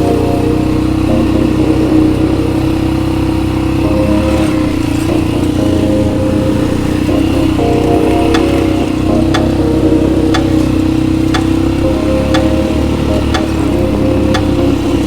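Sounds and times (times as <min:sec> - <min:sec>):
quad bike engine running: 0:00.1 - 0:15.0.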